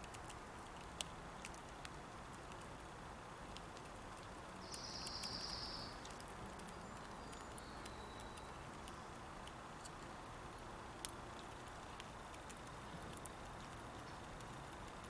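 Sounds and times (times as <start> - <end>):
soft outdoor hiss: 0.0 - 15.0
squirrel chewing clicks: 0.0 - 15.0.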